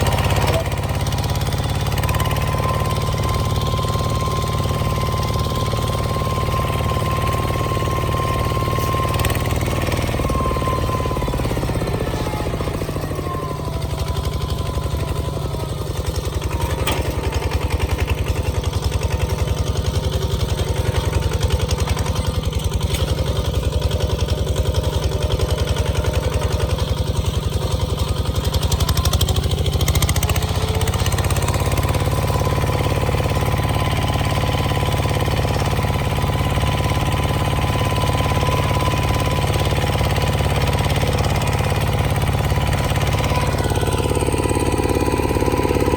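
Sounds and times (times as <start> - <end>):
bulldozer engine running: 0.0 - 45.9.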